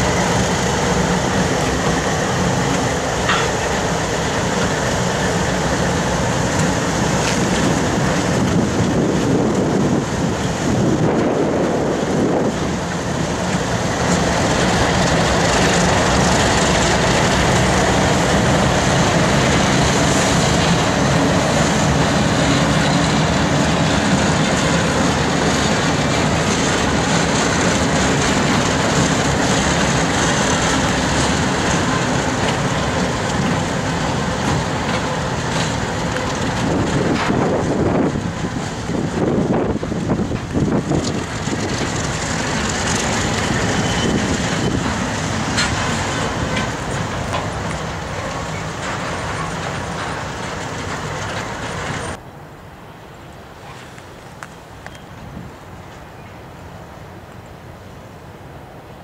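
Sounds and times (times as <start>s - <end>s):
freight train rumbling on rails: 0.0s - 59.0s.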